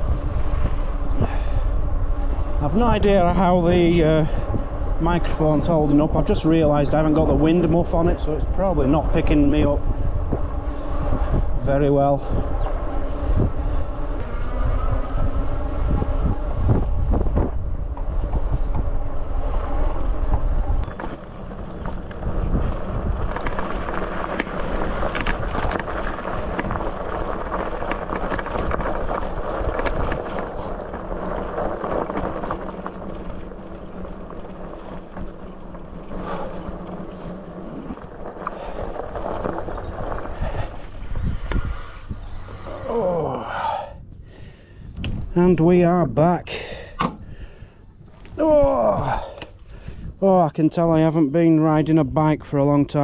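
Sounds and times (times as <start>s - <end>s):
tyre noise on gravel: 0.0s - 43.9s, 48.0s - 50.4s
heavy low rumble: 0.0s - 51.1s
wind buffeting microphone: 0.0s - 53.0s.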